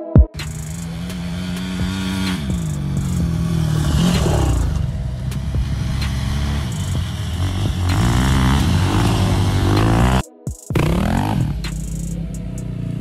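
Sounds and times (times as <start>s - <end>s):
atv engine revving: 0.4s - 10.2s, 10.8s - 13.0s.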